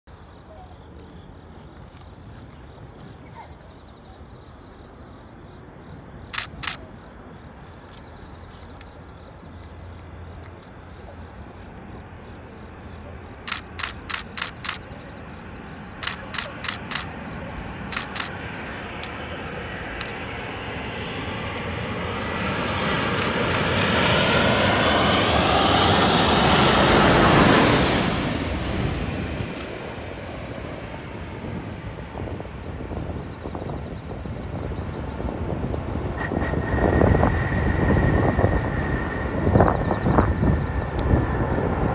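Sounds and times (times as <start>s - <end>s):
jet airliner roar overhead: 0.1s - 41.9s.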